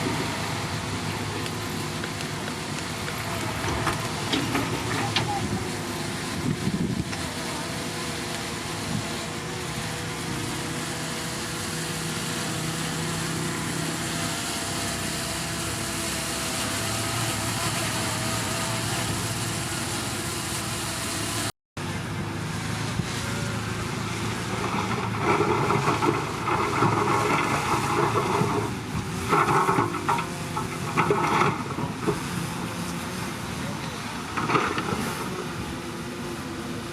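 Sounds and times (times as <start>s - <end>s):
heavy diesel machinery running: 0.0s - 36.9s.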